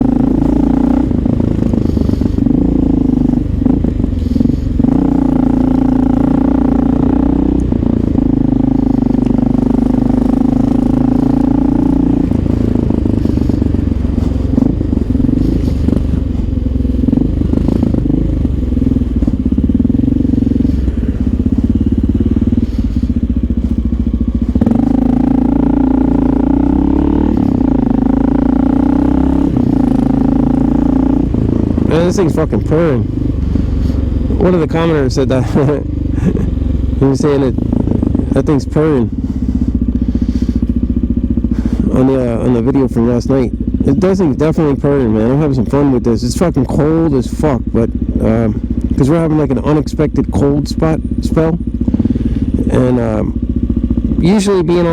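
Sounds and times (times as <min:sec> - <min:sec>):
motorcycle engine rumbling: 0:00.0 - 0:54.9.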